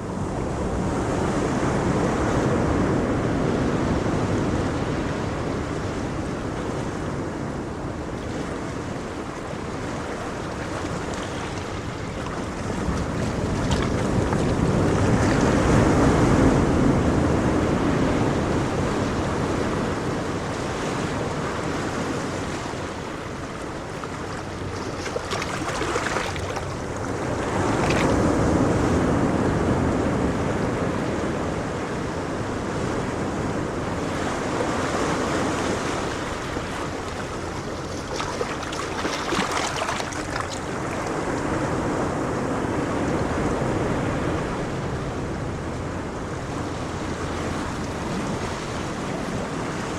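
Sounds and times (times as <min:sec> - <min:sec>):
ocean waves breaking on shore: 0:00.0 - 0:49.9
wind noise: 0:00.0 - 0:49.9.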